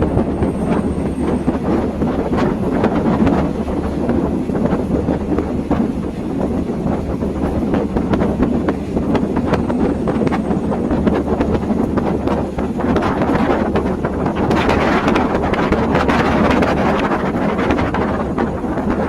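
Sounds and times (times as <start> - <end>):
train rumbling on track: 0.0 - 19.0.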